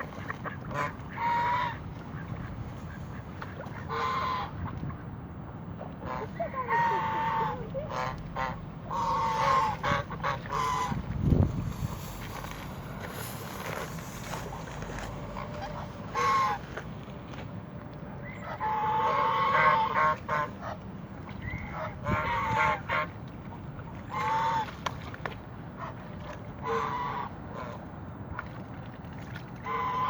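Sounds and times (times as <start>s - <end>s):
waterfowl calling: 0.0s - 4.8s, 6.0s - 11.1s, 11.7s - 16.8s, 18.2s - 25.2s, 25.8s - 27.8s, 29.4s - 30.0s.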